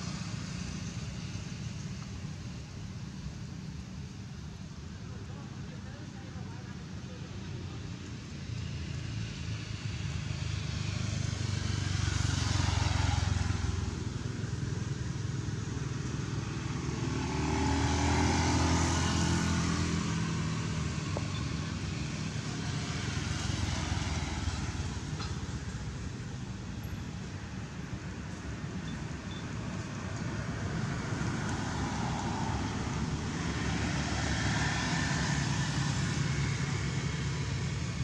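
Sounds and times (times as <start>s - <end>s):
vehicles passing by: 0.0s - 38.0s.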